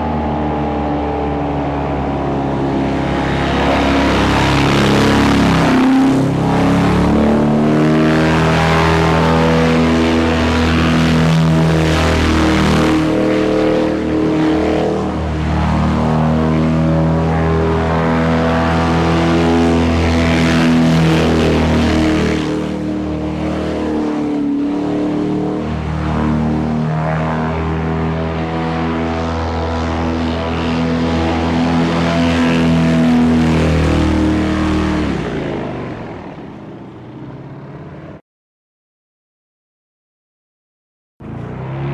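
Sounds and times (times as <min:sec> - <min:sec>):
airboat engine and propeller: 0:00.0 - 0:38.2, 0:41.2 - 0:41.9.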